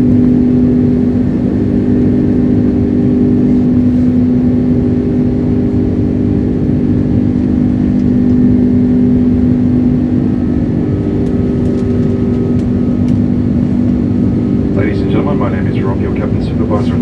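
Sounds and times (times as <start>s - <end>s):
jet engine drone: 0.0s - 17.0s
steady hum tones: 0.0s - 17.0s.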